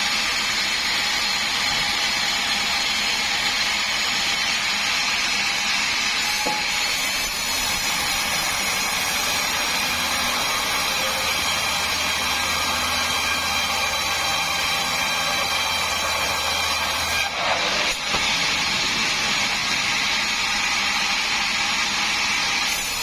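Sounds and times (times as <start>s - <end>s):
sawmill saw whining: 0.0s - 23.0s.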